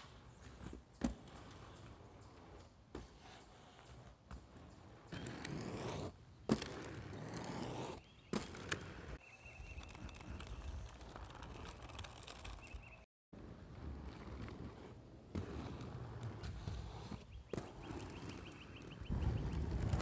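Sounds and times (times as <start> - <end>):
skate wheels rolling on asphalt: 0.0 - 20.0.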